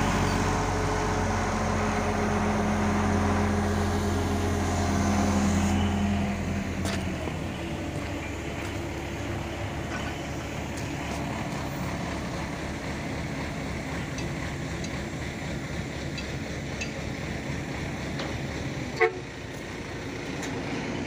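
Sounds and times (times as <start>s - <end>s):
crane diesel engine running: 0.0s - 21.0s.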